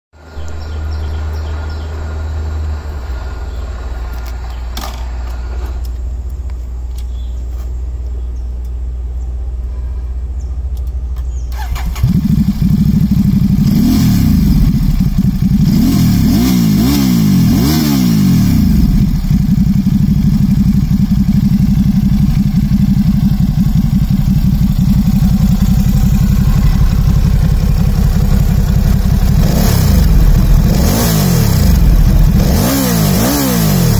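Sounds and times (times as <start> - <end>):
motorcycle engine revving and idling: 0.2 - 7.8, 8.8 - 33.9
low steady rumble: 0.2 - 16.3, 18.3 - 33.1.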